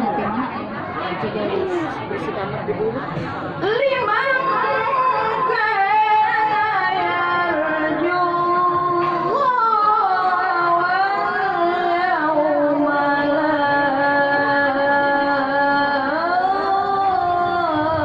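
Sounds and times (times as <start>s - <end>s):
person reciting melodically: 3.6s - 18.0s.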